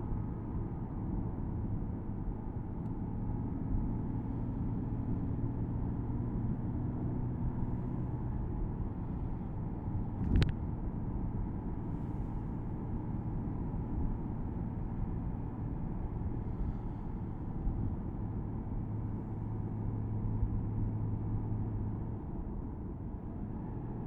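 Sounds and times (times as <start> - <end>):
car engine running in cabin: 0.0 - 24.0.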